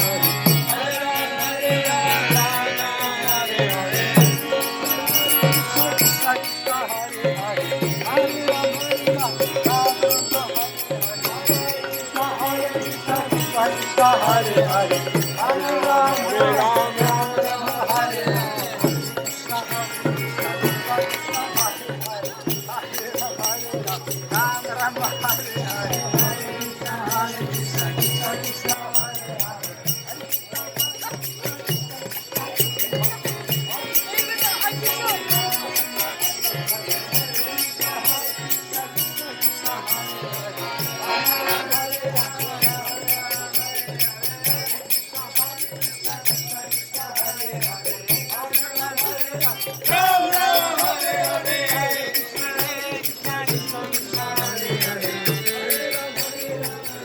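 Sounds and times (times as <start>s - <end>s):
jingling percussion: 0.0s - 57.0s
voices singing: 0.0s - 57.0s.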